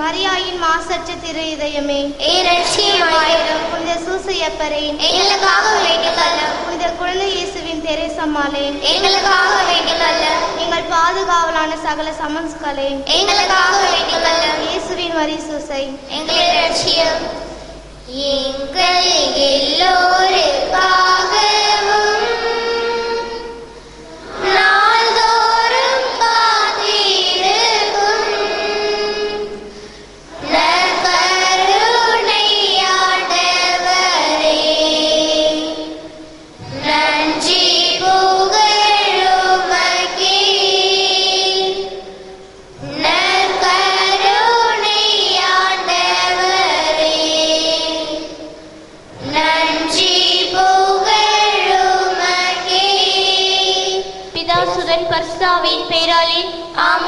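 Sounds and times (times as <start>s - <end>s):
high voices singing a hymn: 2.1s - 12.3s, 13.0s - 56.0s.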